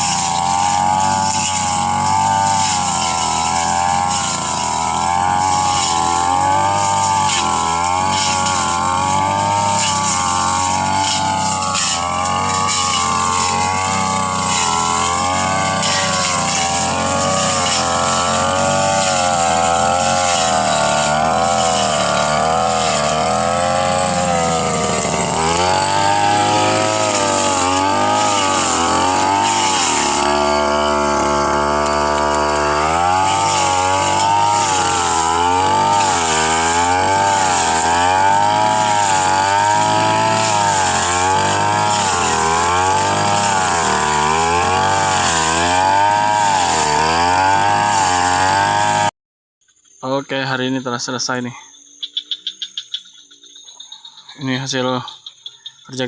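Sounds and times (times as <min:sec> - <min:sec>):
brush cutter cutting grass: 0:00.0 - 0:49.1.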